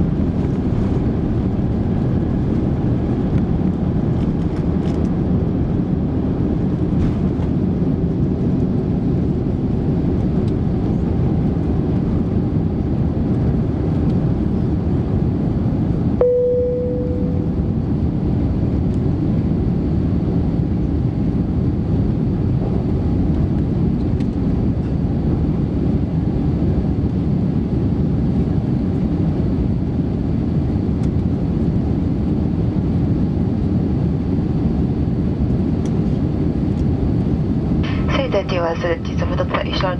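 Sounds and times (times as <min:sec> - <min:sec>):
jet engine roar in cabin: 0:00.0 - 0:39.9.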